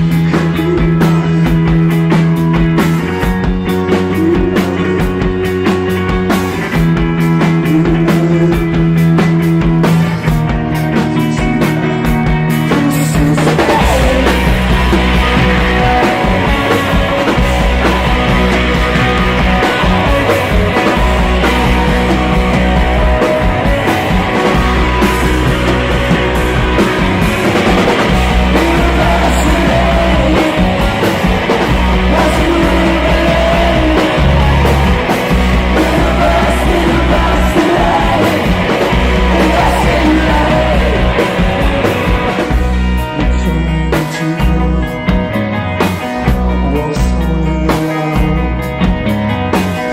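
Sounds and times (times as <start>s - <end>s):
bass: 0.0s - 49.9s
drums: 0.0s - 49.9s
live rock band playing: 0.0s - 49.9s.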